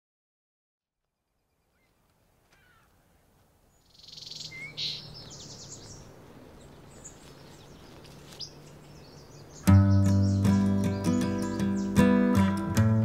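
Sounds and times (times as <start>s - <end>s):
songbirds chirping and trilling: 1.2s - 13.0s.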